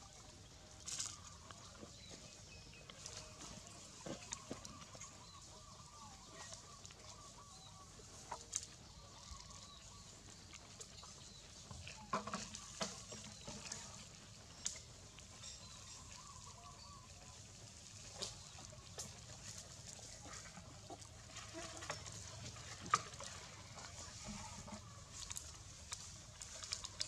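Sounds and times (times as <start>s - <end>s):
dry leaves and twigs crackling: 0.5s - 27.0s.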